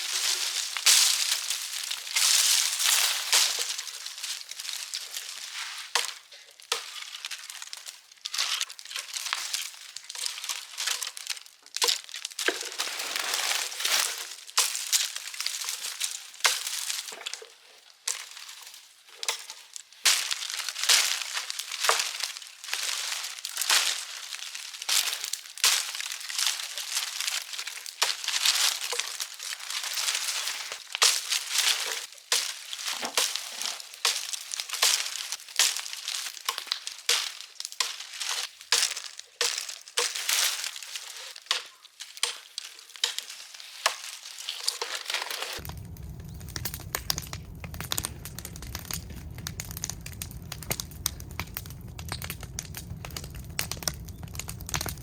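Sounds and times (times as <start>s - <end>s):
wood fire crackling: 0.0s - 5.6s, 6.6s - 41.0s, 42.2s - 55.0s.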